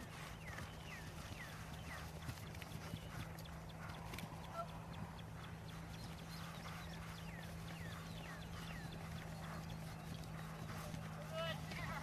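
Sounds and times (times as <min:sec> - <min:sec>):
bird chirping: 0:00.0 - 0:12.0
horse hoofbeats cantering on turf: 0:00.0 - 0:12.0
steady low hum: 0:00.0 - 0:12.0.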